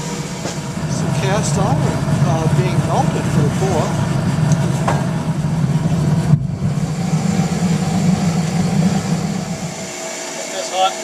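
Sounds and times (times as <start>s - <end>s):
furnace burner rumbling: 0.0s - 11.0s.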